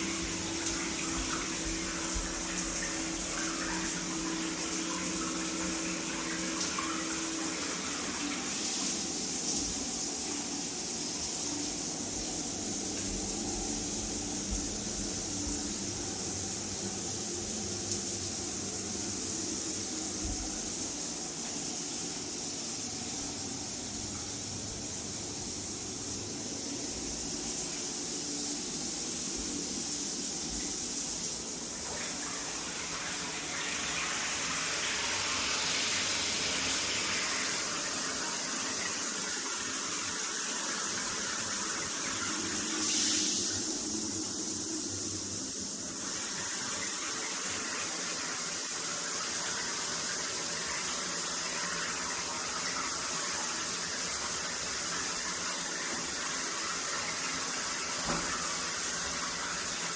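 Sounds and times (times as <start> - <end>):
shower water rushing: 0.0 - 59.9.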